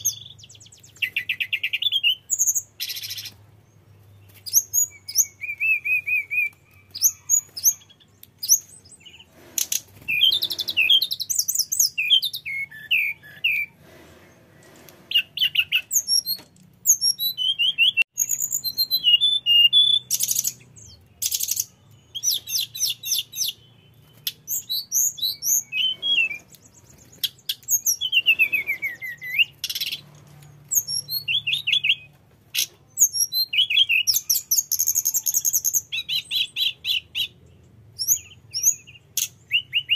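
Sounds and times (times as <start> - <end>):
bird singing whistled trills: 0.0 - 13.8, 15.1 - 30.0, 30.6 - 39.9.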